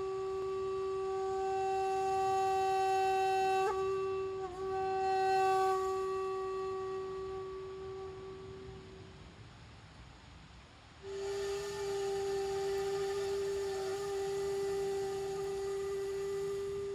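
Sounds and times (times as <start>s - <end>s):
bamboo flute long note: 0.0s - 9.6s, 11.0s - 16.9s.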